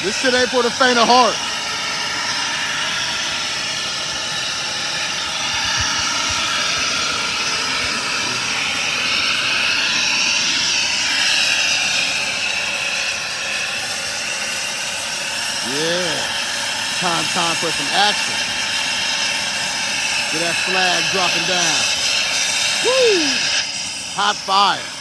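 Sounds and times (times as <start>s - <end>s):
high turbine whine: 0.0s - 25.0s
turbine engine roar: 0.0s - 25.0s.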